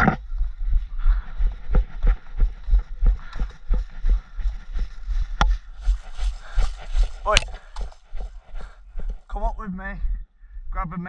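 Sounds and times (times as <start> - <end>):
footsteps jogging on woodchip path: 0.2 - 9.7.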